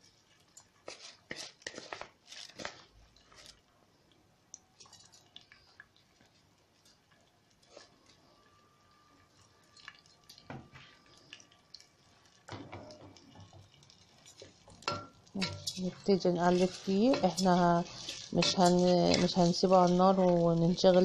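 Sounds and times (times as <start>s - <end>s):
rice crackling in oil: 0.0s - 21.0s.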